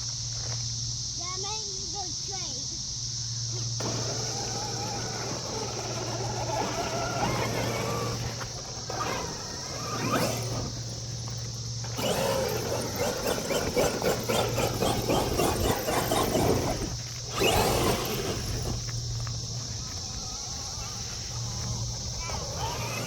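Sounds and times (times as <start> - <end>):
electric motor whining: 3.5 - 23.0.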